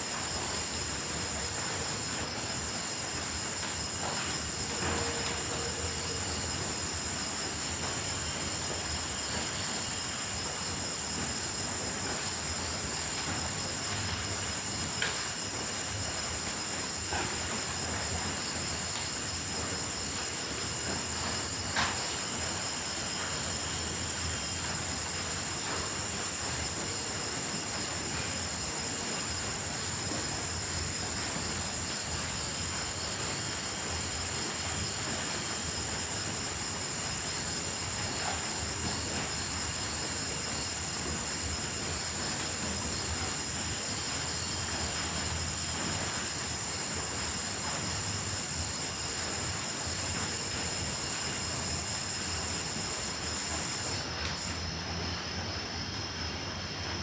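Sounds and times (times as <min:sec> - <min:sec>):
crickets chirring: 0:00.0 - 0:57.0
steady hiss: 0:00.0 - 0:57.0.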